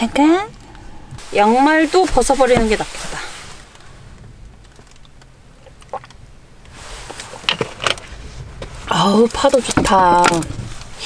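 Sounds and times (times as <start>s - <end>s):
handling clicks and rustles: 0.0s - 11.0s.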